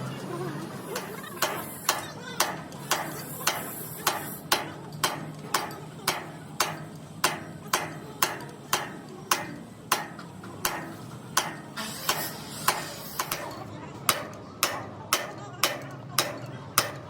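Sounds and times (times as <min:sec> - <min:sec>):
hammer blows on metal: 0:01.0 - 0:17.0.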